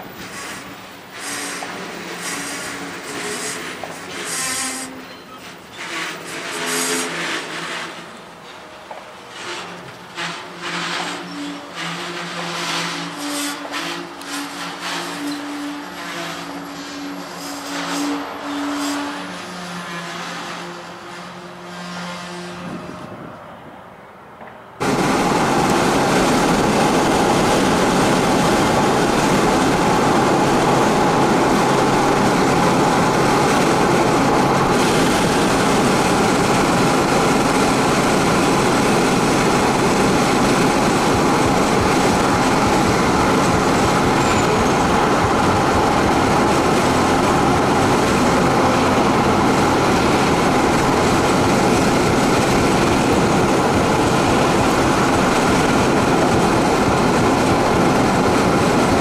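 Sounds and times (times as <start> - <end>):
diesel locomotives passing: 0.0 - 59.0
freight train passing: 0.0 - 59.0.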